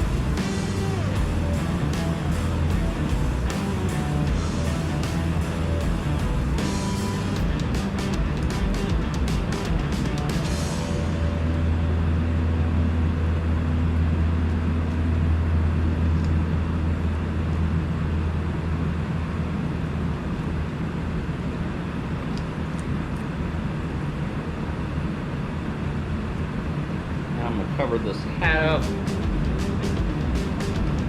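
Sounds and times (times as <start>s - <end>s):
constant rushing noise: 0.0s - 31.0s
low machine hum: 0.0s - 31.0s.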